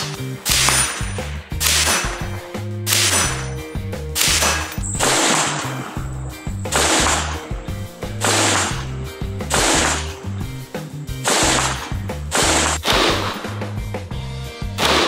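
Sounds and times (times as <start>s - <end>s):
rifle shots: 0.0s - 10.4s, 11.2s - 13.6s, 14.8s - 15.0s
music with stepped bass line: 0.0s - 15.0s.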